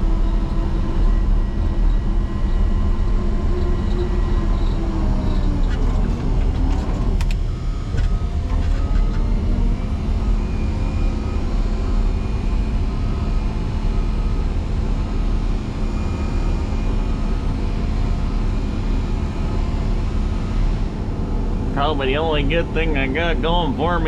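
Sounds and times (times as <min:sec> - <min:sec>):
grader diesel engine running: 0:00.0 - 0:24.0.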